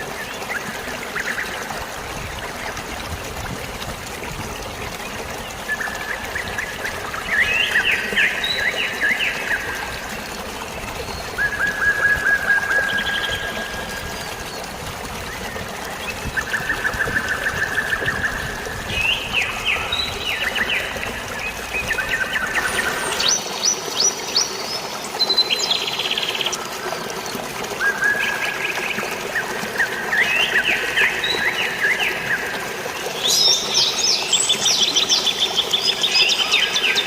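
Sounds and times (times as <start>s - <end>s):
water trickling: 0.0s - 37.0s.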